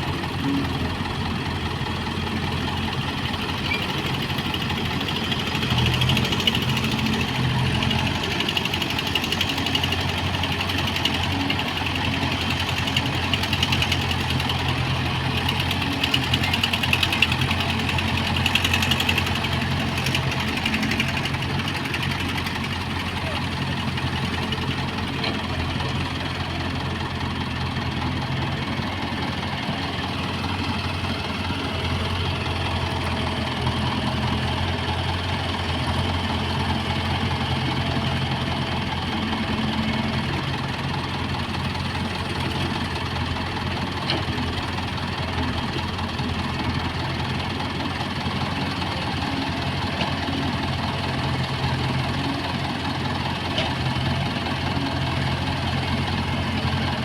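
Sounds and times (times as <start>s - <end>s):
diesel engines humming: 0.0s - 57.0s.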